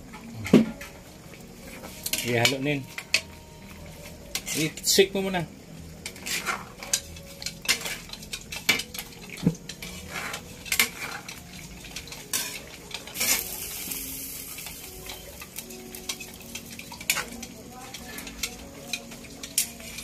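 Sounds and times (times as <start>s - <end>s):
food sizzling in a pan: 0.0s - 20.0s
metal spoon scraping a wok: 1.7s - 5.0s, 6.0s - 20.0s.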